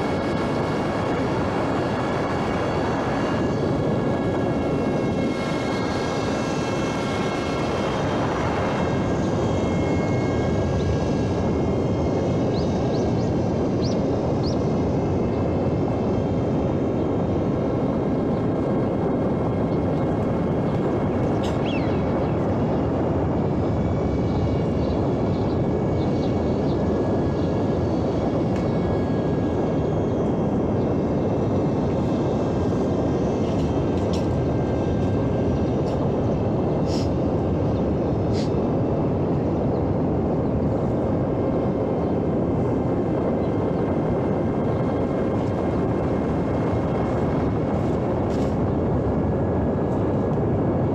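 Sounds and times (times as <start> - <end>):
faint whine: 0.0 - 50.9
model airplane motor and propeller: 0.0 - 50.9
wind rush: 0.0 - 50.9.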